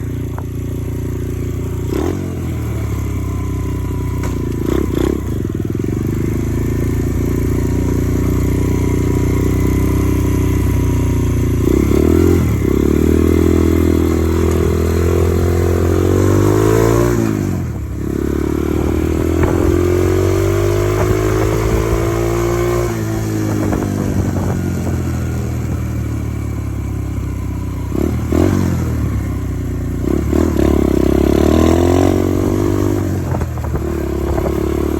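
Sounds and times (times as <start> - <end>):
dirt bike engine revving: 0.0 - 25.8, 27.8 - 34.9.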